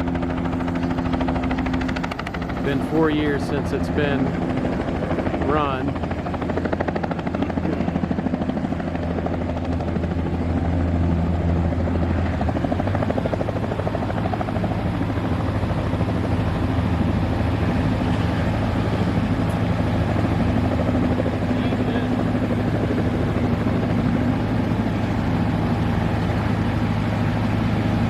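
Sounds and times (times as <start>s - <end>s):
propeller aircraft engine running: 0.0s - 28.0s.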